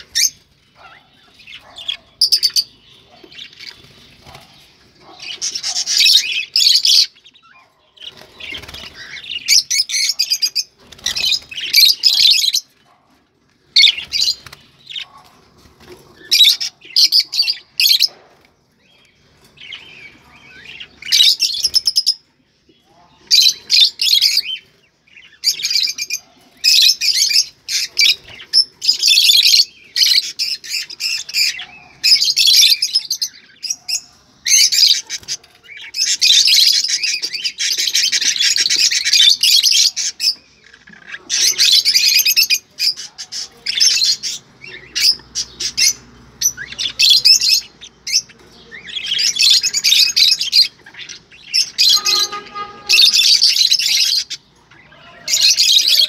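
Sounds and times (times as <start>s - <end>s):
budgerigars chirping and warbling: 0.0s - 56.0s.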